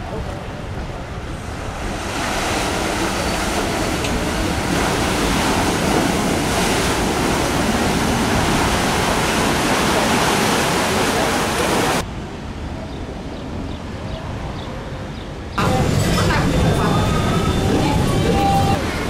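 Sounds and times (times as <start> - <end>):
paddle wheels churning water: 0.0 - 12.0, 15.6 - 19.0.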